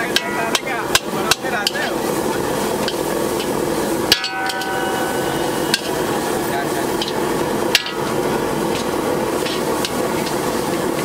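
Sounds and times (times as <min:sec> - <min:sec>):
metal spatula clanging on a wok: 0:00.0 - 0:02.0, 0:02.8 - 0:10.4
steady frying hiss: 0:00.0 - 0:11.0.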